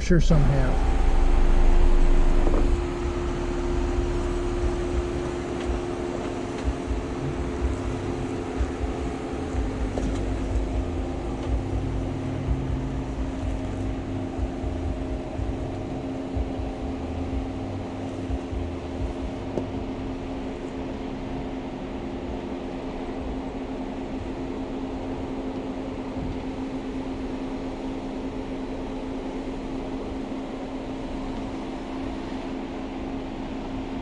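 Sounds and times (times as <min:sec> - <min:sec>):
car engine running at low speed: 0:00.0 - 0:34.0.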